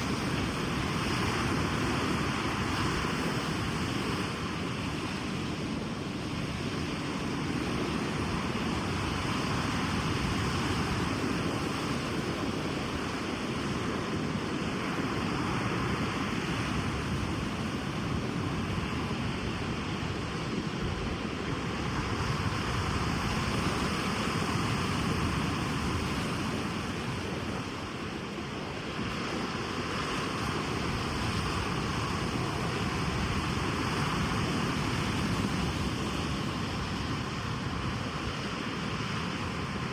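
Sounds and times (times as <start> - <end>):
ocean surf on a beach: 0.0 - 39.9.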